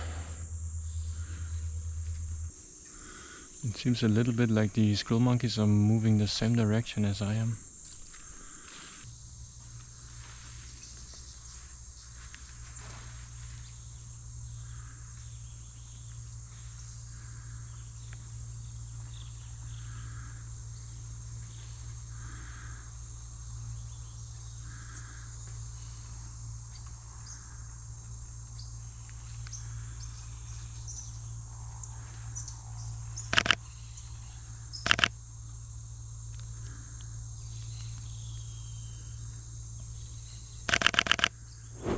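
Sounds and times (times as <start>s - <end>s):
chorus of insects: 0.0s - 41.9s.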